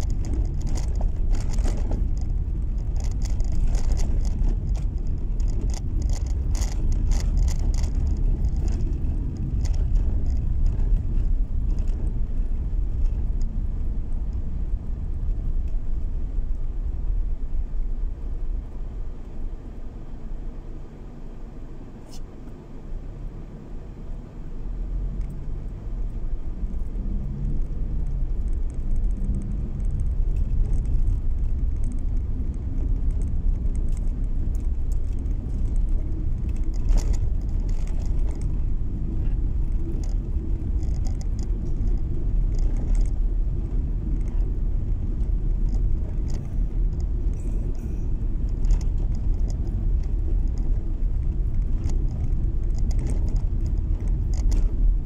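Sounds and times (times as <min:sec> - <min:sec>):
faint rattles inside car: 0:00.0 - 0:19.9, 0:21.9 - 0:55.0
car tyres and engine rumbling: 0:00.0 - 0:55.0.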